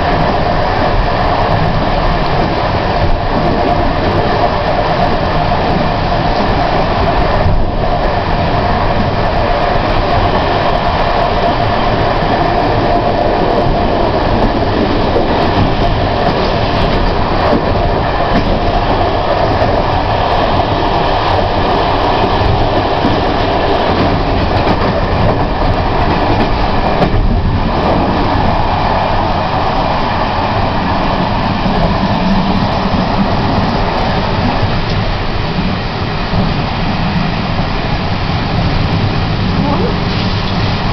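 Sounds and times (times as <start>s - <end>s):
metro train wheels on rail: 0.0s - 40.9s.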